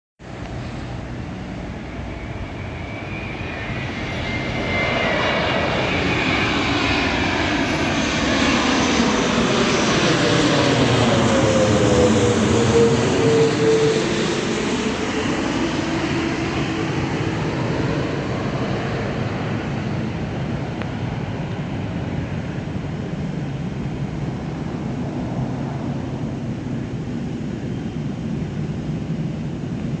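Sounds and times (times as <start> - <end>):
passenger jet passing overhead: 0.2 - 30.0.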